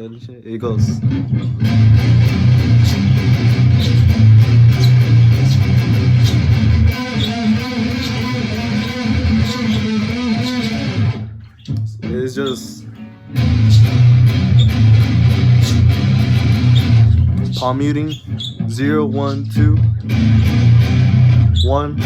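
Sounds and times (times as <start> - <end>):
electric guitar riff: 0.8 - 22.0.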